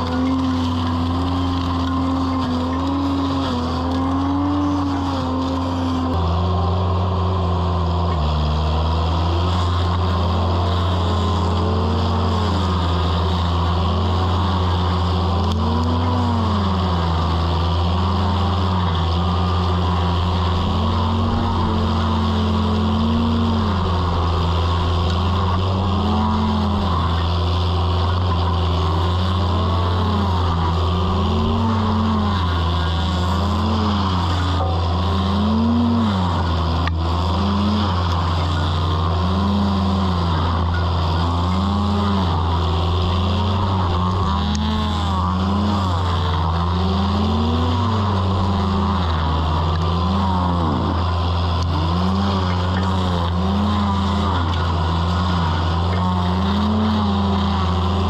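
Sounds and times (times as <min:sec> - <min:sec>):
engine drone: 0:00.0 - 0:58.0
stump grinder whine: 0:00.0 - 0:58.0.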